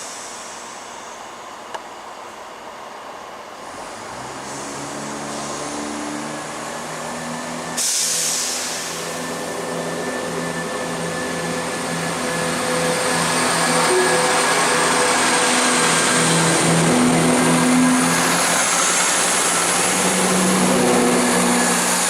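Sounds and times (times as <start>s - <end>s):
diesel train engines throttling up: 3.6s - 22.0s
loud rush of noise: 3.8s - 22.0s.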